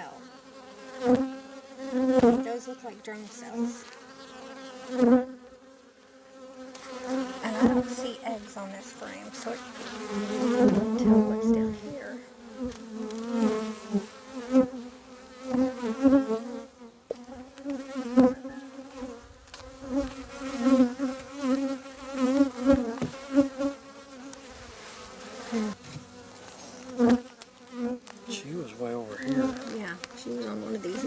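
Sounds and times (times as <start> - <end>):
honey bees buzzing: 0.0 - 31.0.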